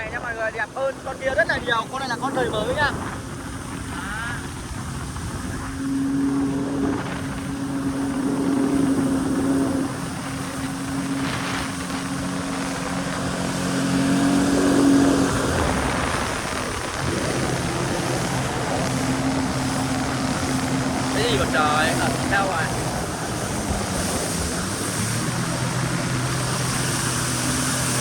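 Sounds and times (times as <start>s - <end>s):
jet ski engine drone: 0.0s - 28.0s
water spray rushing: 0.0s - 28.0s
wind: 0.0s - 28.0s.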